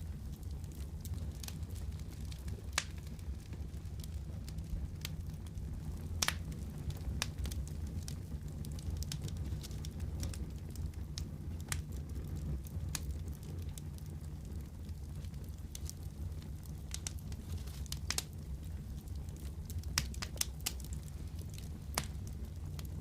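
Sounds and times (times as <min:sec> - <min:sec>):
fire rumbling: 0:00.0 - 0:23.0
wood fire popping and snapping: 0:00.0 - 0:23.0.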